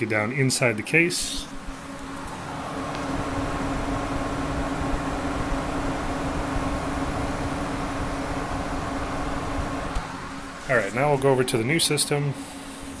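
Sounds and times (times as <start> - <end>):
cooling fans rushing air: 0.0 - 13.0.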